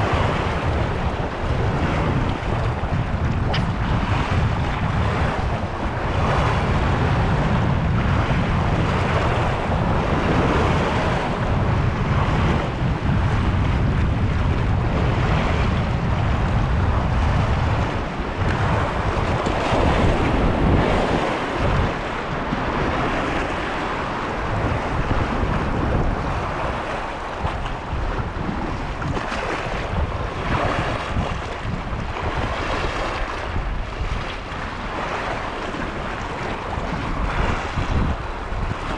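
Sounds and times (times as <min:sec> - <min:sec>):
waves washing: 0:00.0 - 0:38.9
wind buffeting microphone: 0:00.0 - 0:38.9.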